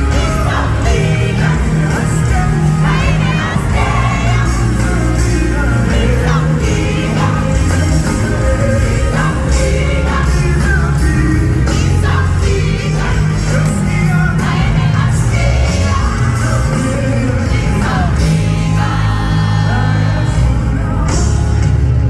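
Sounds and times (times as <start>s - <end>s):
gospel band music: 0.0s - 22.0s
people singing: 0.0s - 22.0s.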